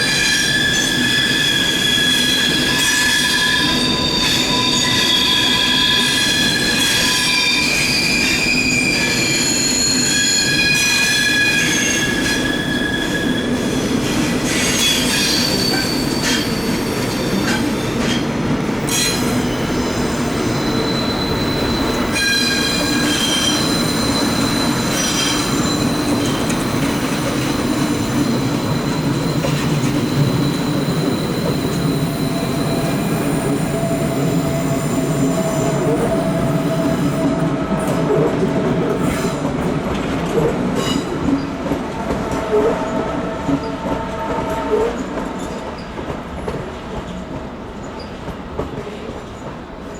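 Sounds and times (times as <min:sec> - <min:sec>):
train wheels squealing: 0:00.0 - 0:39.6, 0:40.8 - 0:46.1
rumble of train wheels: 0:00.0 - 0:49.9.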